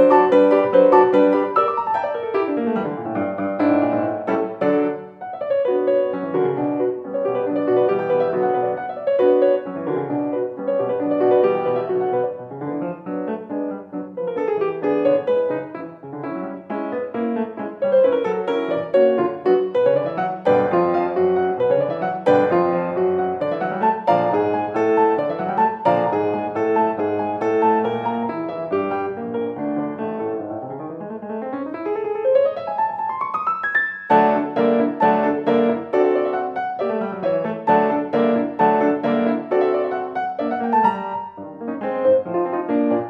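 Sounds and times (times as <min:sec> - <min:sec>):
solo piano classical piece: 0:00.0 - 0:43.0.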